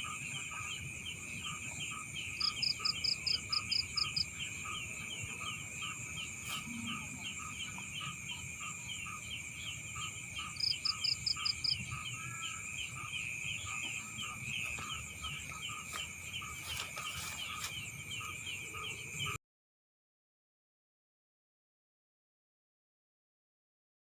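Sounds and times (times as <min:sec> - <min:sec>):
frogs chirping: 0:00.0 - 0:19.4
insects trilling: 0:00.0 - 0:19.4.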